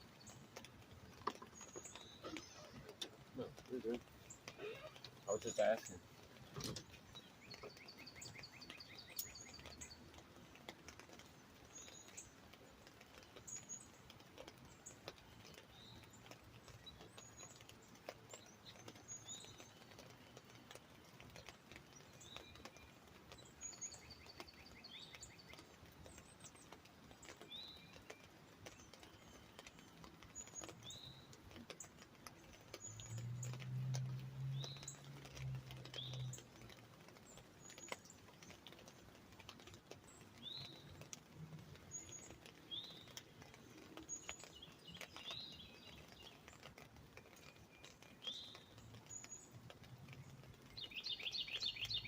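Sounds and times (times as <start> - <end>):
drips tapping on umbrella: 0.0 - 52.0
faint songbirds calling: 0.0 - 52.0.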